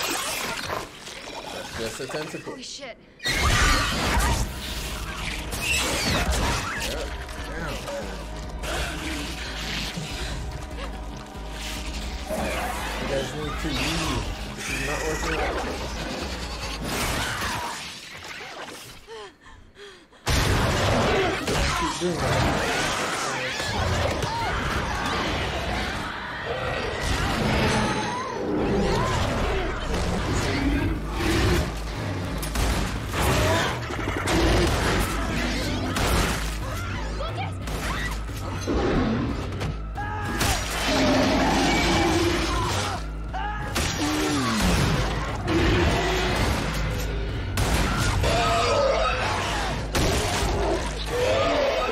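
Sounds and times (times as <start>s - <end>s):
dramatic score: 0.8s - 51.9s.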